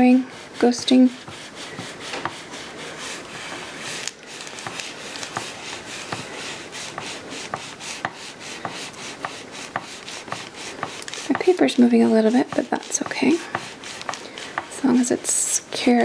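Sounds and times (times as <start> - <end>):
papery rubbing and scraping: 0.0 - 16.0.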